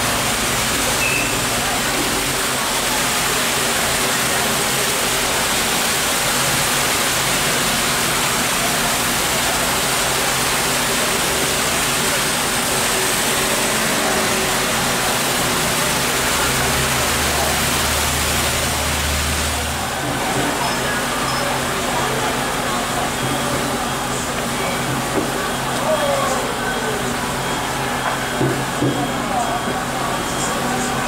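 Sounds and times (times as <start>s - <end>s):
rain on a wet street: 0.0s - 31.0s.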